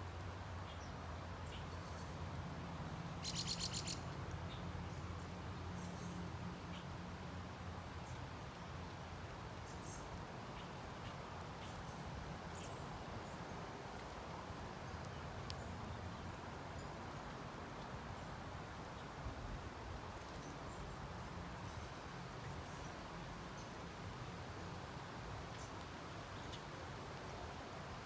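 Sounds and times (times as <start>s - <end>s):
outdoor hiss and low rumble: 0.0s - 28.0s.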